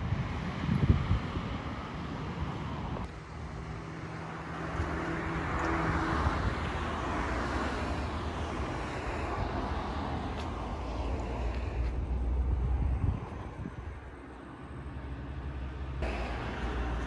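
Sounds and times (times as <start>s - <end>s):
vehicle passing: 0.2s - 17.0s.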